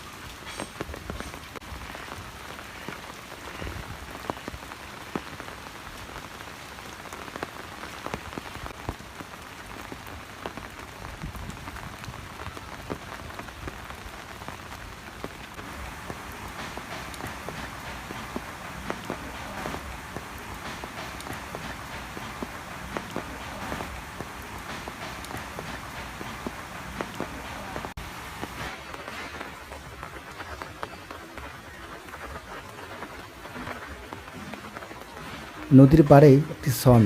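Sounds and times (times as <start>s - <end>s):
raindrops ticking: 0.0s - 37.0s
steady rain hiss: 0.0s - 37.0s.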